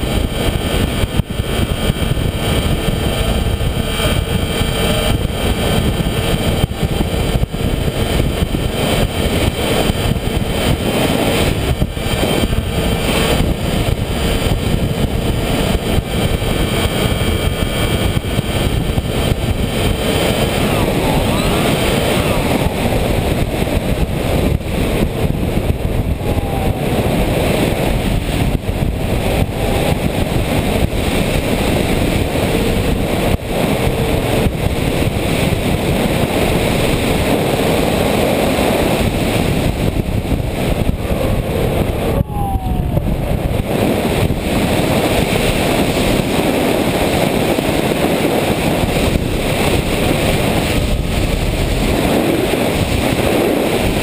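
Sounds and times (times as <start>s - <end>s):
motor and propeller whine: 0.0s - 54.0s
wind buffeting microphone: 0.0s - 54.0s.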